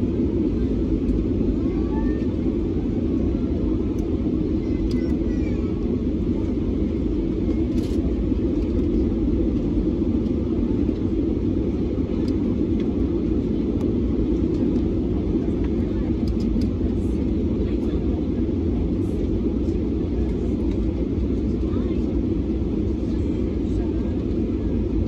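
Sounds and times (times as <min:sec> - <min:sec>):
airflow over aircraft fuselage: 0:00.0 - 0:25.0
jet engines humming: 0:00.0 - 0:25.0.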